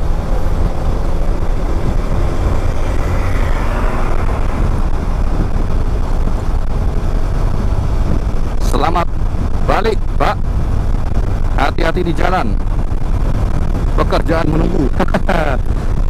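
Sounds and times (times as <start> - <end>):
motorcycle engine: 0.0 - 14.0
surrounding cars: 0.0 - 16.0
wind rumble on microphone: 0.0 - 16.0.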